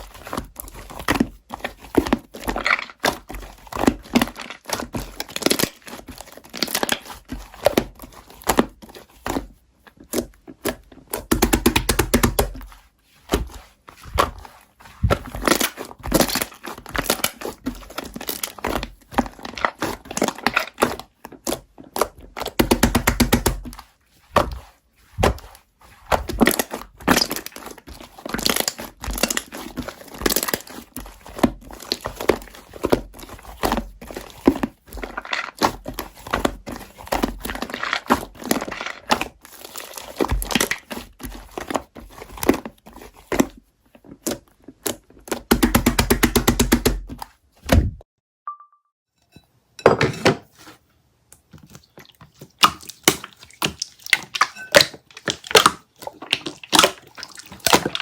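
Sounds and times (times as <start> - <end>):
crinkling and tapping handling sounds: 0.0 - 47.4, 49.8 - 58.0.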